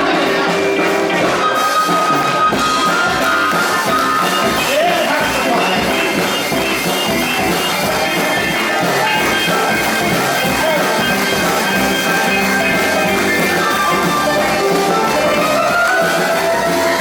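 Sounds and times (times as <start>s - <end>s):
live band playing: 0.0s - 17.0s
steady drum beat: 0.0s - 17.0s.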